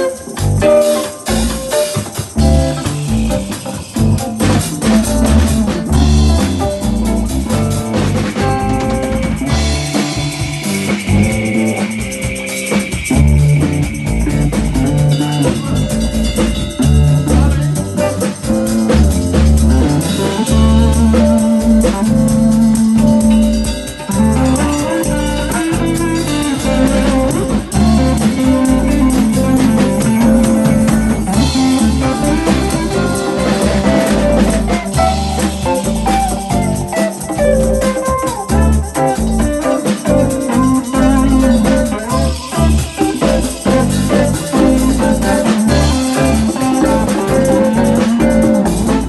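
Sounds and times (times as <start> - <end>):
drum kit playing: 0.0 - 49.0
guitar: 0.0 - 49.0
deep bass notes: 1.3 - 49.0.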